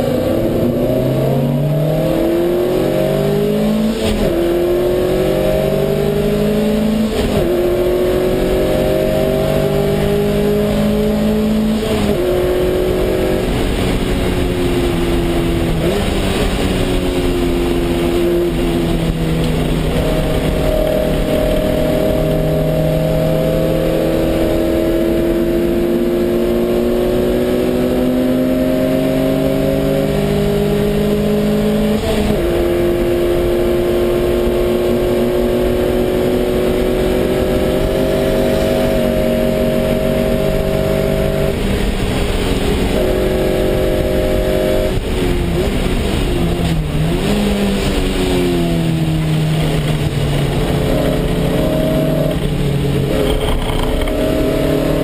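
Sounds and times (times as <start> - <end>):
gear changes: 0.0 - 55.0
race car engine accelerating: 0.0 - 55.0
wind and road noise: 0.0 - 55.0.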